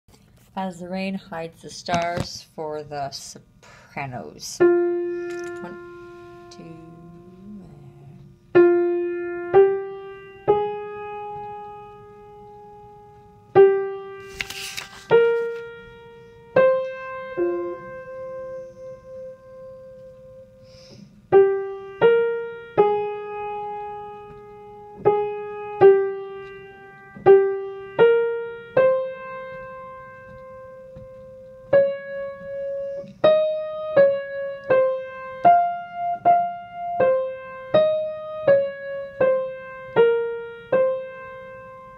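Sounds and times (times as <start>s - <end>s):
slow single-note piano melody: 4.6s - 41.9s.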